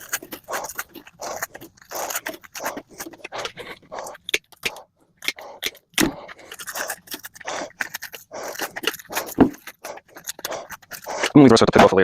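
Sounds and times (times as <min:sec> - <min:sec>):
hand scraping on metal: 0:00.0 - 0:12.0.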